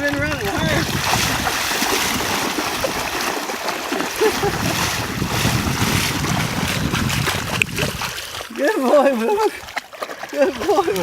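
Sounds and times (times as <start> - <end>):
wind buffeting microphone: 0.0 - 8.5, 9.3 - 11.0
surf washing: 0.0 - 11.0.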